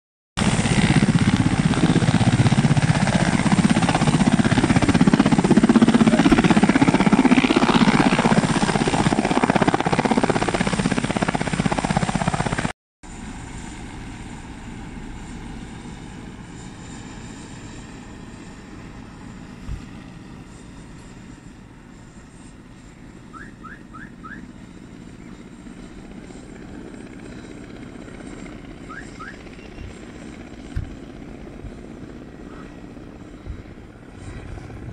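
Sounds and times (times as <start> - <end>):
distant helicopter drone: 0.4 - 34.9
helicopter lifting off: 0.4 - 34.9.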